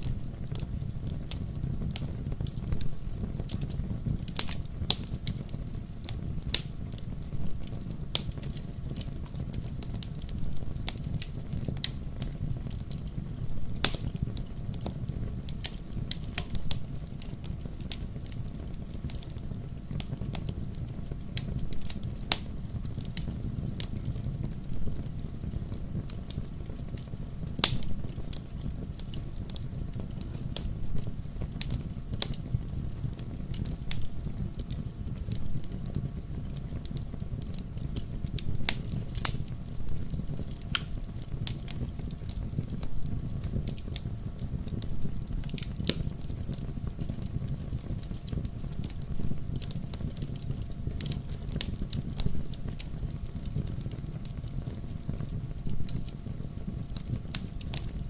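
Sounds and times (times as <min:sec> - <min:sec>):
bonfire flames rumbling: 0:00.0 - 0:58.0
burning wood popping and crackling: 0:00.0 - 0:58.0.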